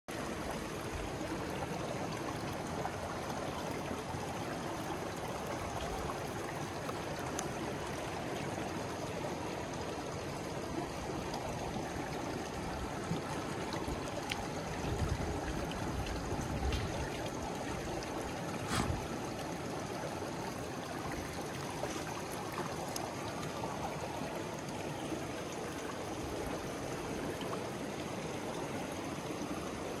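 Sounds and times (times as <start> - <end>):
creek water over stones: 0.1 - 30.0.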